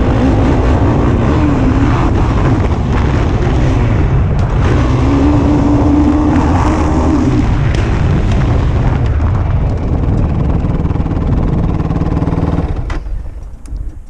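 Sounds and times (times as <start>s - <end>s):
quad engine running: 0.0s - 14.0s.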